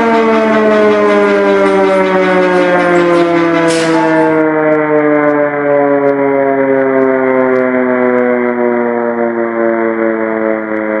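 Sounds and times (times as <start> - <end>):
siren wail with falling pitch: 0.0 - 11.0.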